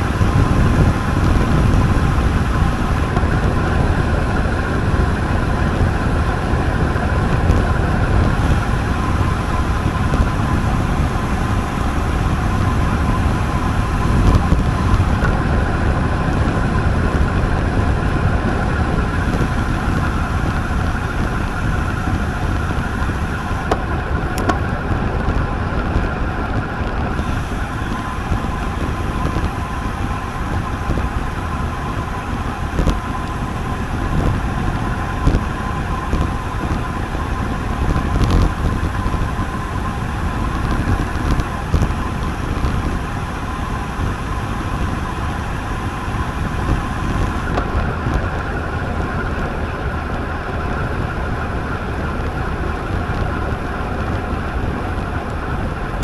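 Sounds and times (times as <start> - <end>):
bike tyres rolling on pavement: 0.0 - 56.0
wind rushing over microphone: 0.0 - 56.0.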